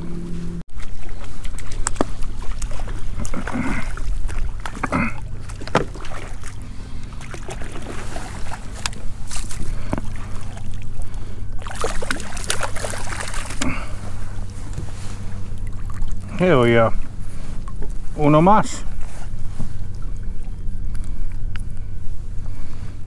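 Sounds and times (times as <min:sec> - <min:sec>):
steady low rumble: 0:00.0 - 0:23.0
water lapping against hull: 0:00.0 - 0:23.0.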